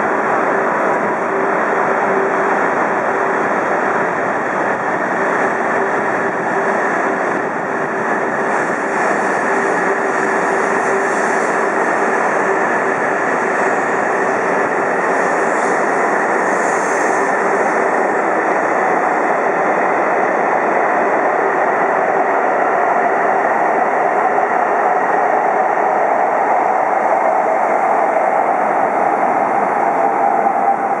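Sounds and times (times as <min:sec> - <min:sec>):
high-speed train passing: 0:00.0 - 0:31.0
train whine: 0:00.0 - 0:31.0.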